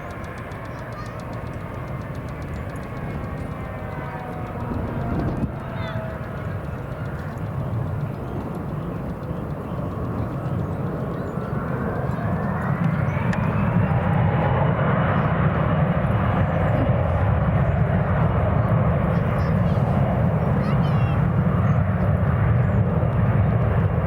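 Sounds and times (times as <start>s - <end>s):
jet engines rumbling: 0.0s - 24.0s
rising engine whine: 0.0s - 24.0s.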